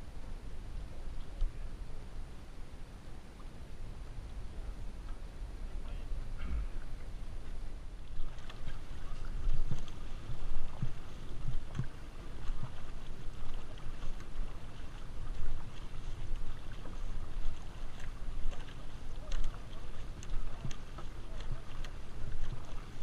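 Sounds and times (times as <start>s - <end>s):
paddles pulling through water: 0.0s - 23.0s
water splashes: 0.0s - 23.0s
wind rumble on microphone: 0.0s - 23.0s.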